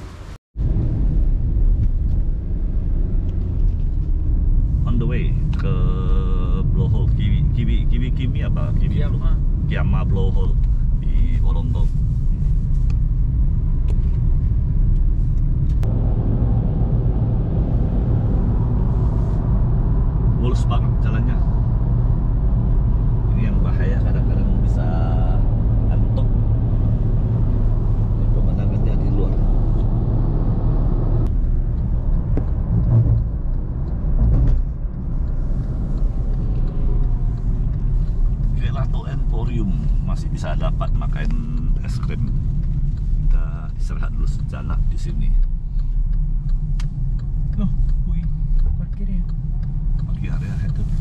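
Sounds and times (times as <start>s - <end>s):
car interior engine and tyre rumble: 0.0s - 51.0s.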